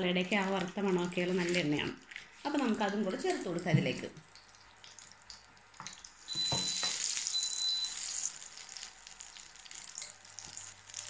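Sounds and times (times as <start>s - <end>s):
butter and oil sizzling in a pan: 1.8s - 11.0s.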